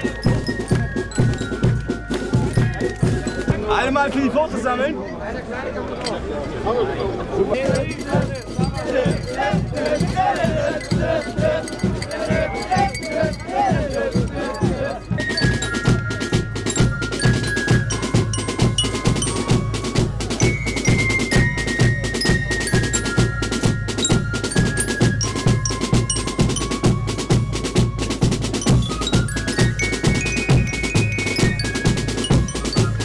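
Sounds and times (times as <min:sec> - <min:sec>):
flutes and bell lyra melody: 0:00.0 - 0:03.9, 0:07.7 - 0:33.0
snare and bass drums: 0:00.0 - 0:03.9, 0:07.6 - 0:33.0.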